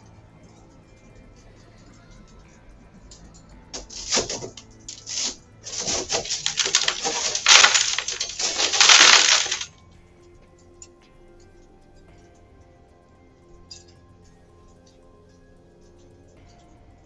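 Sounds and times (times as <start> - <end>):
crunching and rattling noises: 0.0 - 17.0.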